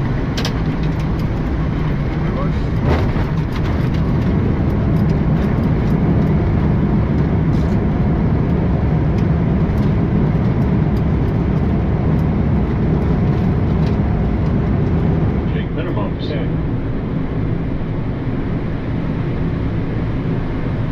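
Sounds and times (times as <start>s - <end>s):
aircraft engine and runway rumble: 0.0s - 20.9s.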